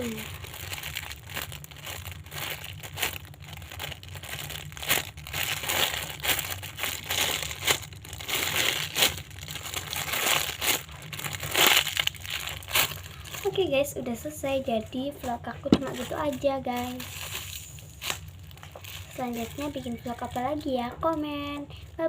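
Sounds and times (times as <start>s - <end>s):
squishy toy crinkling: 0.0s - 13.7s, 15.2s - 20.4s.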